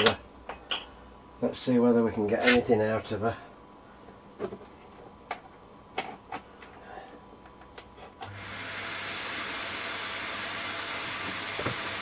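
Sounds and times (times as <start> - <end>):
steady hiss with low hum: 0.0 - 12.0.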